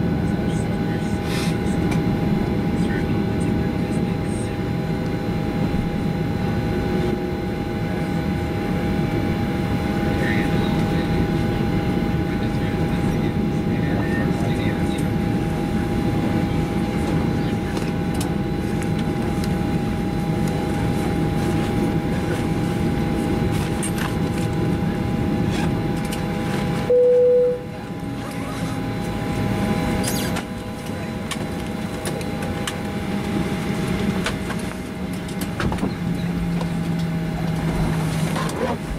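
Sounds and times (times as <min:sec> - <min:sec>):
aircraft cabin hum and rumble: 0:00.0 - 0:38.9.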